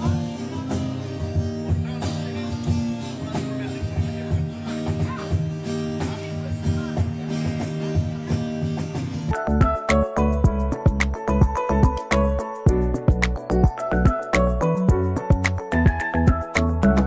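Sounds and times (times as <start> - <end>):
strummed guitar music with beat: 0.0 - 17.0.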